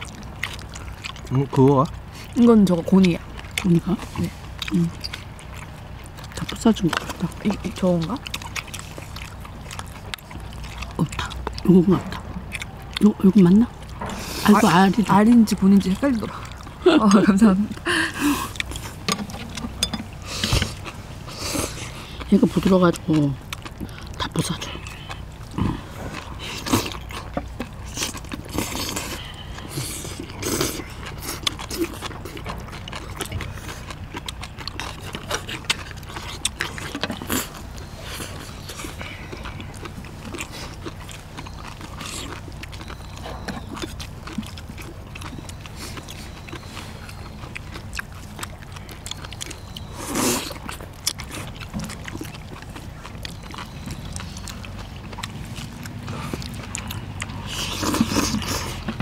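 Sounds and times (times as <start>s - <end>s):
people chewing and slurping: 0.0s - 59.0s.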